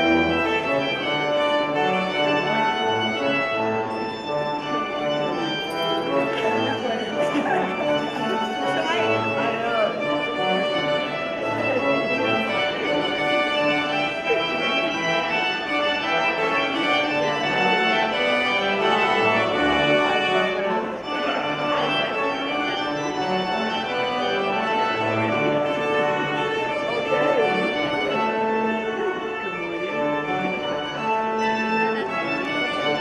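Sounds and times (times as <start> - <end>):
organ music: 0.0 - 33.0.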